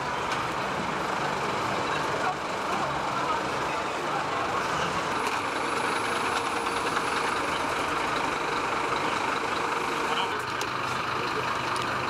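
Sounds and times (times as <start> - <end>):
street noise: 0.0 - 12.0
vehicle engines idling: 0.0 - 12.0.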